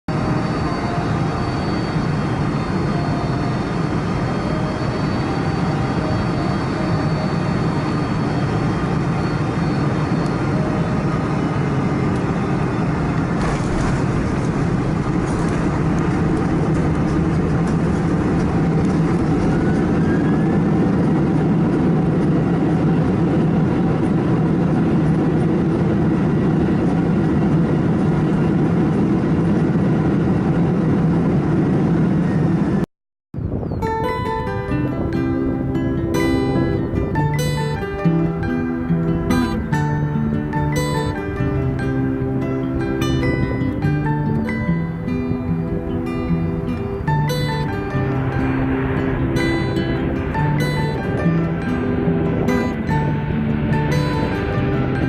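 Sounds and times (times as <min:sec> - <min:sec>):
jet engines rumbling: 0:00.1 - 0:32.8, 0:33.4 - 0:55.0.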